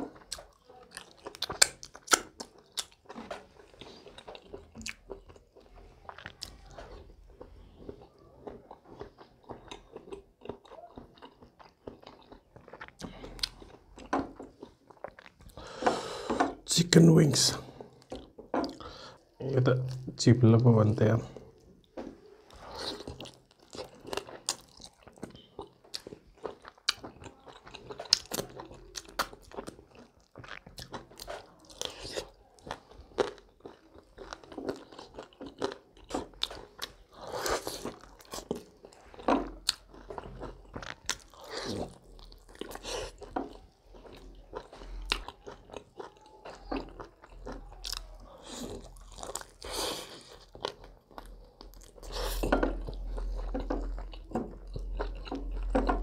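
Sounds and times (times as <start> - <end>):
chewing and crunching chicken wings: 0.0 - 15.8, 21.5 - 56.0.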